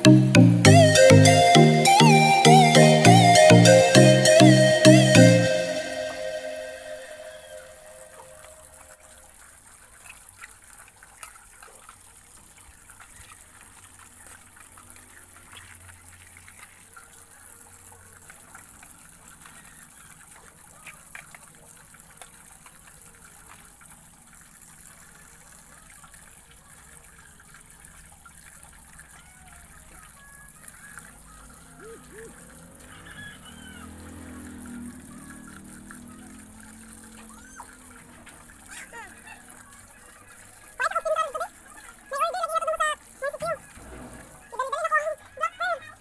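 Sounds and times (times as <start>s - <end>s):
running water gushing: 7.0s - 46.0s.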